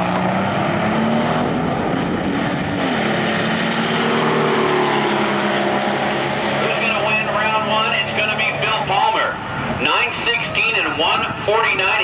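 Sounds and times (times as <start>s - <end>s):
diesel trucks at full throttle: 0.0s - 12.0s.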